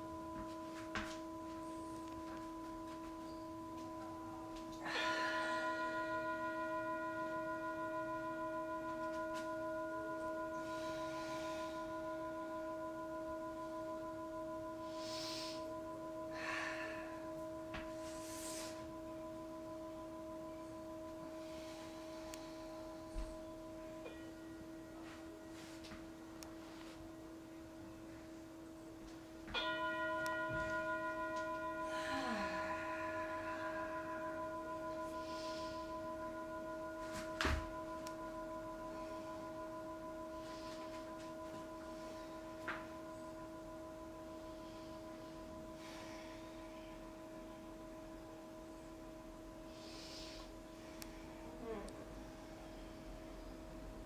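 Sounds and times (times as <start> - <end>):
singing bowl bell tone: 0.0 - 54.0.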